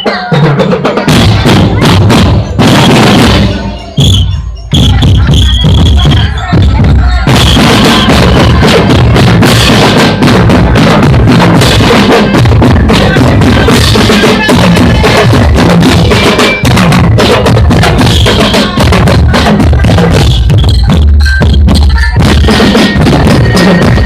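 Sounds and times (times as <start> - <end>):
loud music with drum beat: 0.0 - 24.0.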